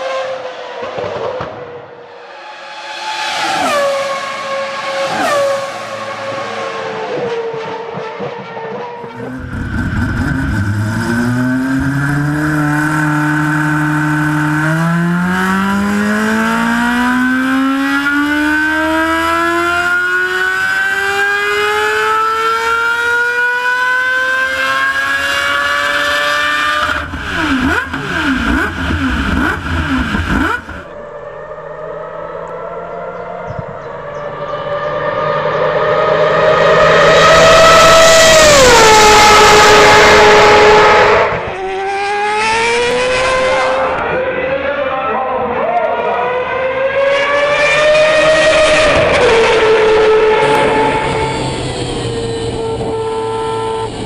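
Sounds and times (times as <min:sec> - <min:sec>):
car engine revving at full throttle: 0:00.0 - 0:54.0.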